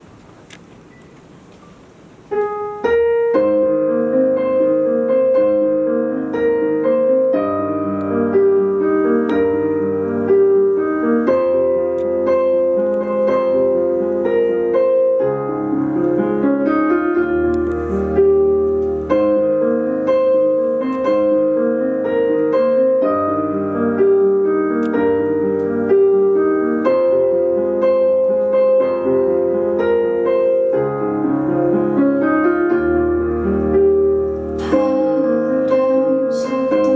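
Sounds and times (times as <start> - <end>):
piano playing: 1.4 - 36.9.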